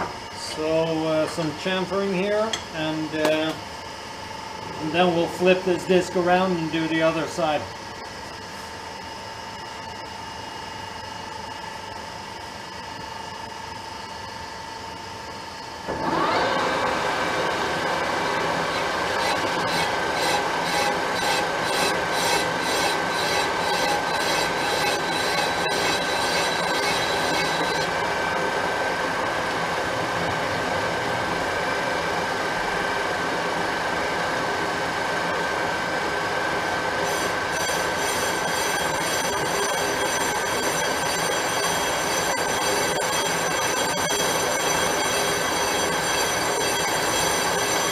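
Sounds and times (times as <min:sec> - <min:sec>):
metal lathe whine and rumble: 0:00.0 - 0:47.9.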